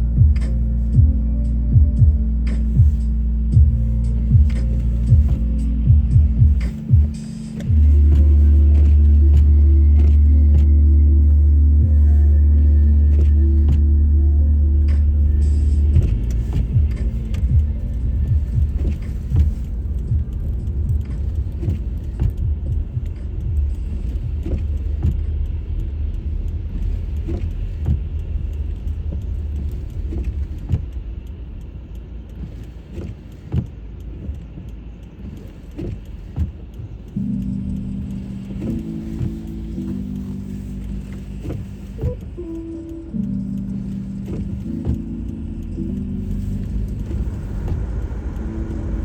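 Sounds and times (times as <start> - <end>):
car road noise rumble: 0.0 - 49.0.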